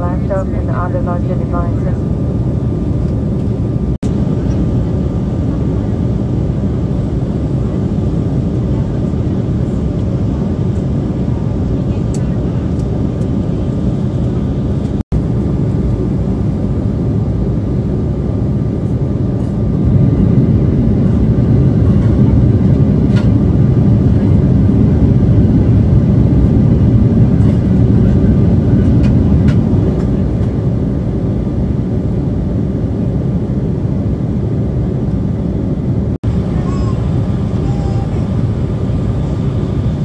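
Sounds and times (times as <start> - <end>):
jet cabin rumble in flight: 0.0 - 40.0.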